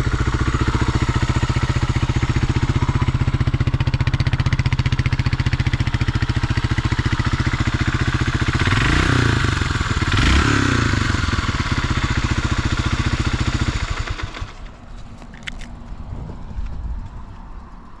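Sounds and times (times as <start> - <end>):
engine running down: 0.0 - 15.2
motorcycle engine idling and revving: 0.0 - 18.0.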